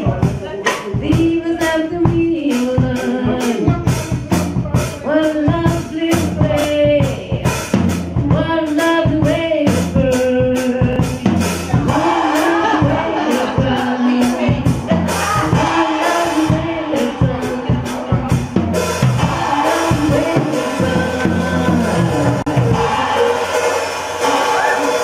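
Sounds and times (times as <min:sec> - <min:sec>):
woman singing: 0:00.0 - 0:03.9, 0:05.0 - 0:23.4
music with drum beat: 0:00.0 - 0:25.0.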